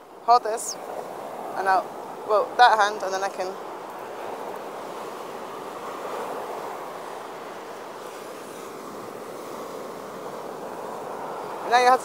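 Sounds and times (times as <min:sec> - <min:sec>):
sea surf washing: 0:00.0 - 0:12.0.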